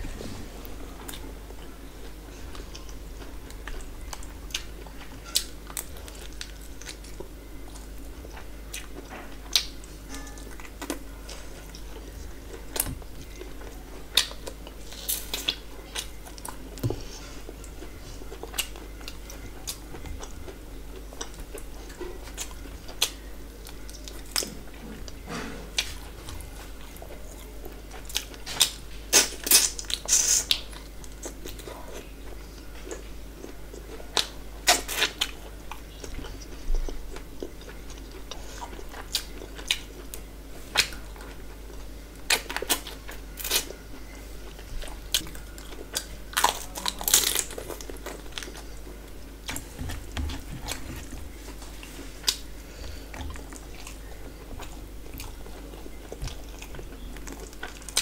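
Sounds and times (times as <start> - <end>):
person chewing: 0.9 - 58.0.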